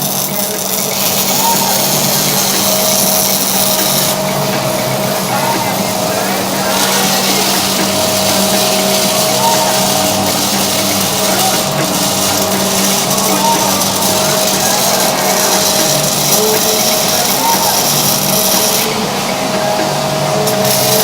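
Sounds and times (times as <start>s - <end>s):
rock background music: 0.0s - 21.0s.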